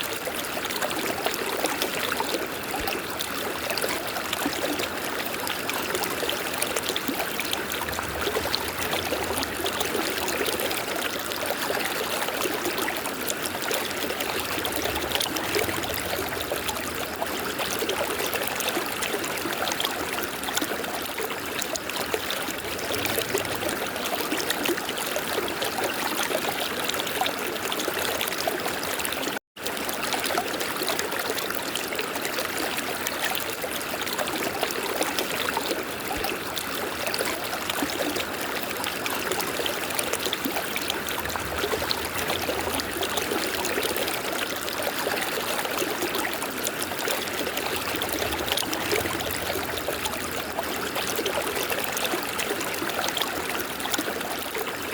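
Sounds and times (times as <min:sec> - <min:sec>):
river water babbling: 0:00.0 - 0:54.9.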